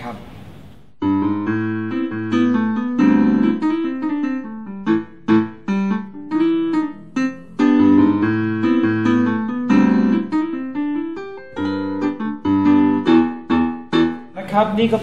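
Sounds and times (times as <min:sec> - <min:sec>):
digital piano chords and melody: 0:00.9 - 0:15.0.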